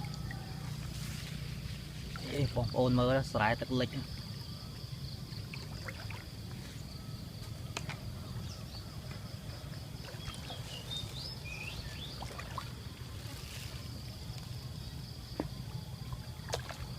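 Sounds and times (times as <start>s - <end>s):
high insect drone: 0.0s - 16.9s.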